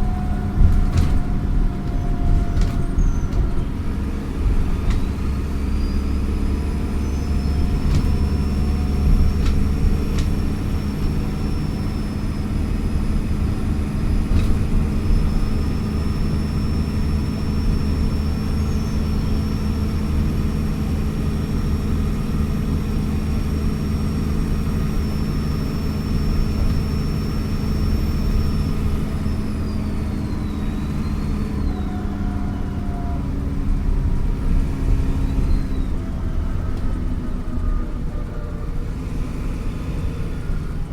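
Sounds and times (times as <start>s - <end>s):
bus engine running under load: 0.0s - 40.9s.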